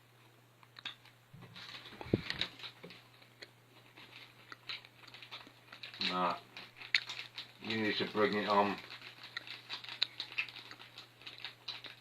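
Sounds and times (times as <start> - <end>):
chewing dried meat: 1.6 - 12.0.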